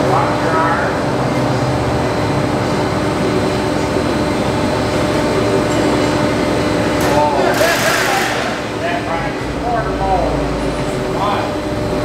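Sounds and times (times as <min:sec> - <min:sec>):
forklift engine droning: 0:00.0 - 0:12.0.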